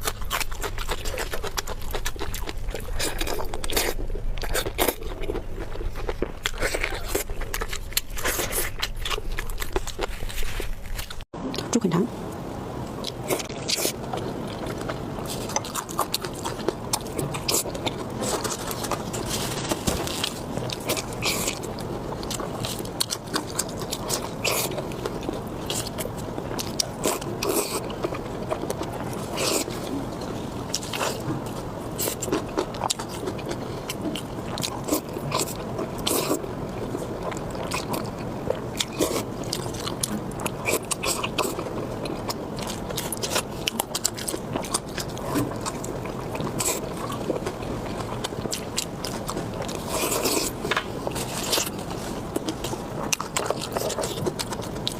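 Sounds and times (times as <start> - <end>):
person chewing food: 0.0 - 11.6, 12.9 - 54.9.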